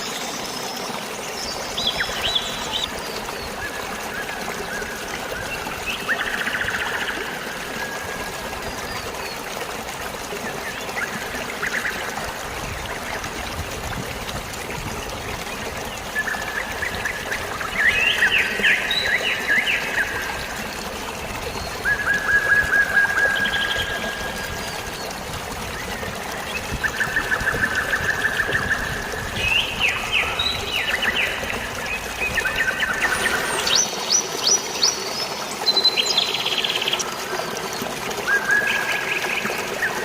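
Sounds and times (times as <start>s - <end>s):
songbirds singing trills: 0.0s - 9.8s, 15.4s - 40.0s
water trickling and splashing: 0.0s - 40.0s.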